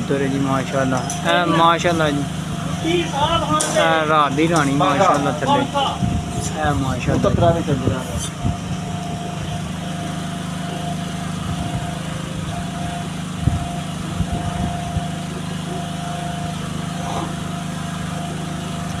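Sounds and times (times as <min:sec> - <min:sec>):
small motor humming and whining: 0:00.0 - 0:19.0.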